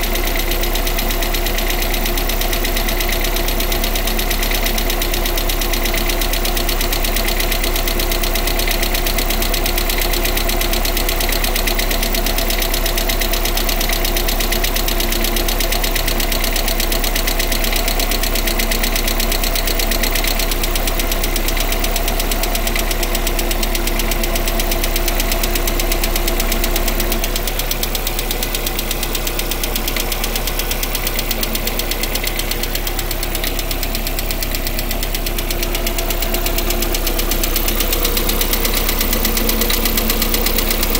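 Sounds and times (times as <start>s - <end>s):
car engine knocking: 0.0s - 40.9s.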